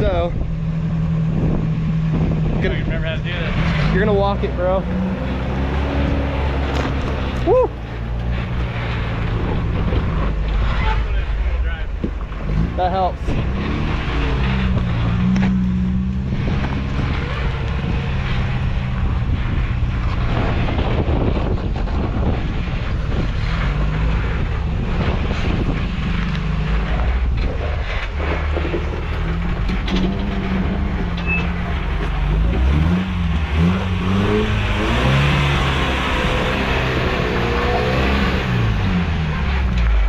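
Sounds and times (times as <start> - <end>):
truck engine revving: 0.0 - 40.0.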